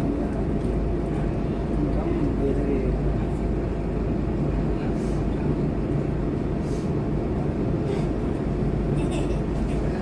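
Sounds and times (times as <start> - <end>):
bus diesel engine drone: 0.0 - 10.0.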